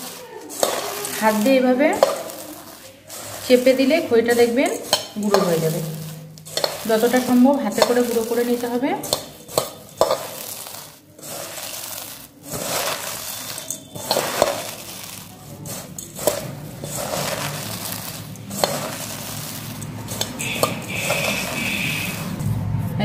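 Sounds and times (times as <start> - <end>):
puffed rice crunching: 0.0 - 22.8.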